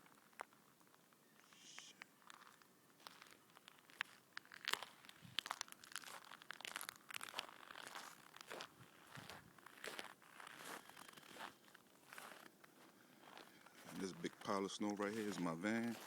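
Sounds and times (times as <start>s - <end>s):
footsteps crunching through snow: 2.2s - 16.0s.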